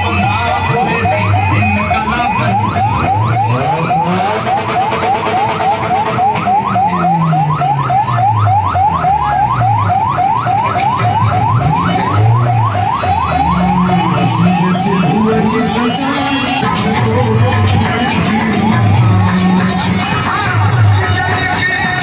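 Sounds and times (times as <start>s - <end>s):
electronic siren yelping: 0.0s - 22.0s
motorcycle engines droning: 0.0s - 22.0s.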